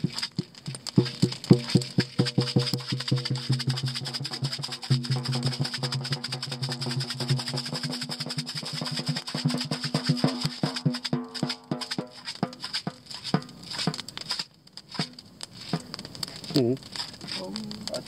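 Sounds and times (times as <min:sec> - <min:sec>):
percussion music: 0:00.0 - 0:16.0.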